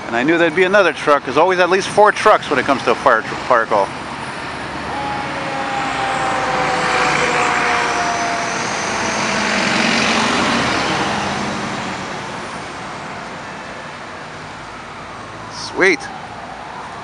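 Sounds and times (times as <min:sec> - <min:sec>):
cars driving past: 0:02.3 - 0:17.0.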